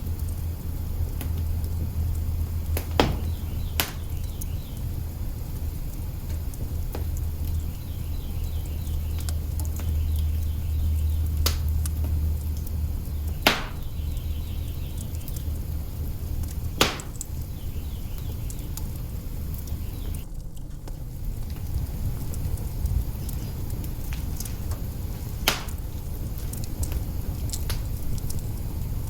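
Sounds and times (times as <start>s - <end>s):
fire crackling: 0.0s - 29.0s
fire popping: 0.0s - 29.0s
low rumble: 0.0s - 29.0s.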